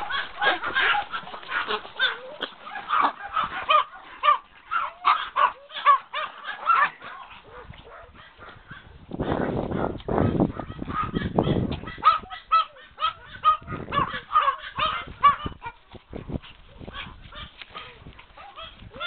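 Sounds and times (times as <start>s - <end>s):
small dogs yapping and barking: 0.0s - 19.0s.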